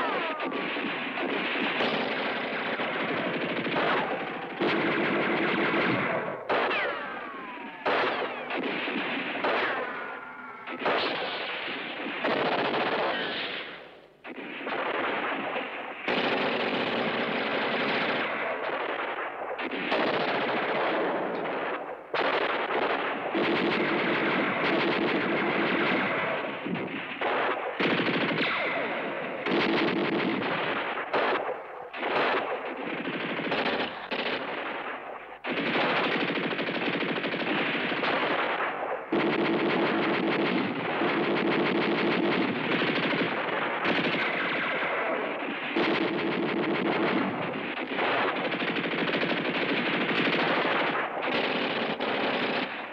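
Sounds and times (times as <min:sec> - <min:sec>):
machine gun firing bursts: 0:00.0 - 0:52.9.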